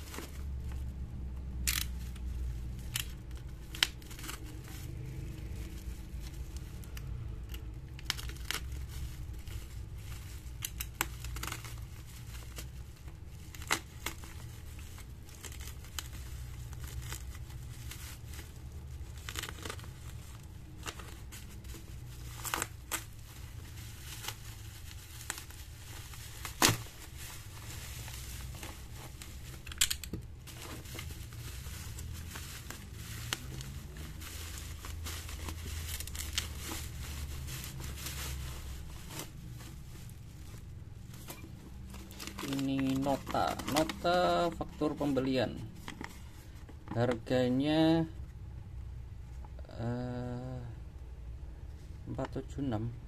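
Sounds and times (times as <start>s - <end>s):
bubble wrap crinkling and tearing: 0.0s - 48.2s.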